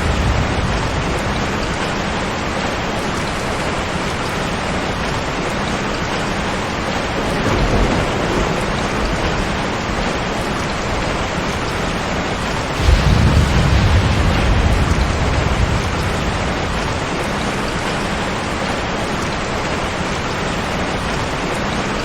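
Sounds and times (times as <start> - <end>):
distant thunder rumbling: 0.0 - 5.1, 6.3 - 19.4
heavy rain: 0.0 - 22.0.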